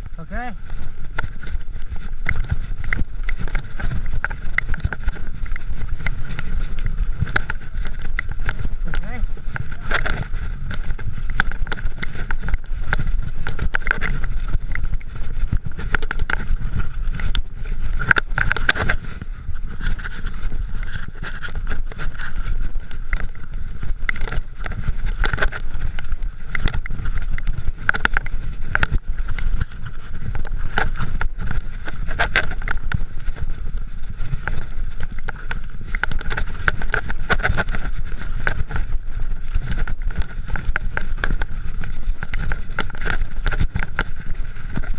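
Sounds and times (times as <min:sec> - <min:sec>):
tyres on dirt: 0:00.0 - 0:44.9
wind on microphone: 0:00.0 - 0:44.9
bike knocking on rocks: 0:00.3 - 0:19.2, 0:19.8 - 0:44.9.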